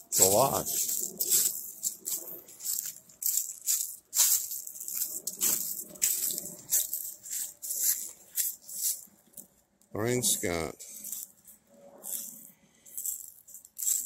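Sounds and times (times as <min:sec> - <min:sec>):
footsteps crunching dry leaves: 0:00.0 - 0:09.6, 0:10.3 - 0:14.0.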